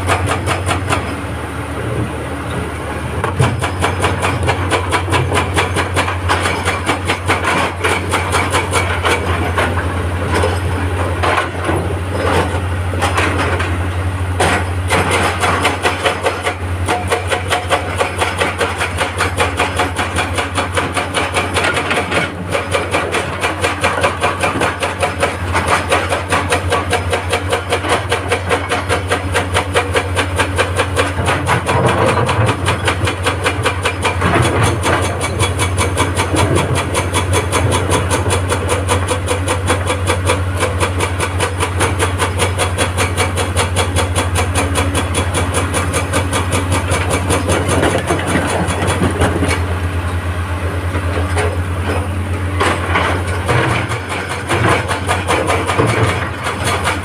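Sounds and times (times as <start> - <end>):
hydraulic breaker hammering rock: 0.0 - 1.3, 3.2 - 57.0
diesel engine under load: 0.0 - 57.0.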